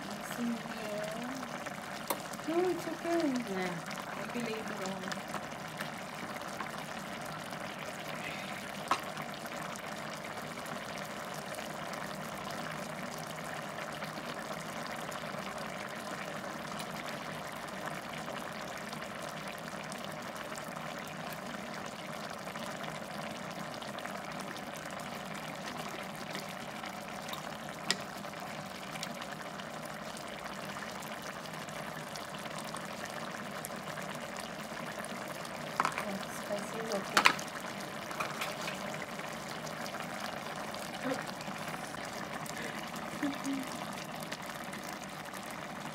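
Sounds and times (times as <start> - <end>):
curry simmering and bubbling: 0.0 - 45.9.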